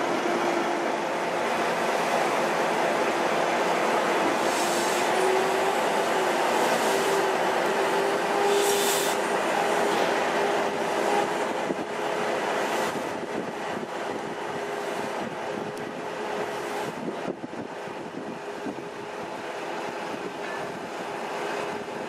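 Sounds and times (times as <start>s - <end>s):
hiss and rumble of rail machinery: 0.0s - 22.0s.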